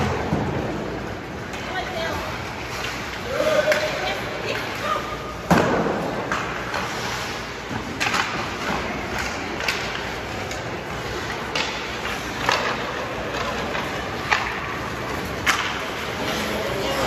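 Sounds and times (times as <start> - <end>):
hockey sticks and puck clacking: 0.0 - 17.0
steady rink hum: 0.0 - 17.0.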